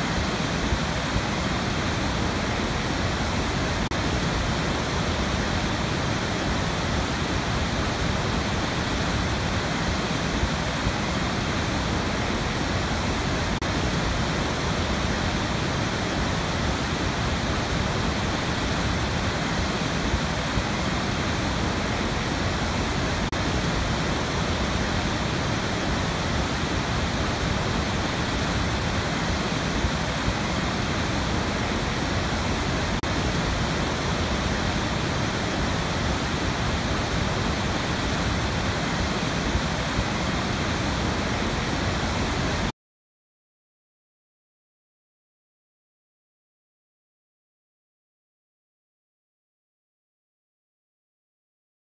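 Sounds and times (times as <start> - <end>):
waterfall rushing: 0.0 - 42.7.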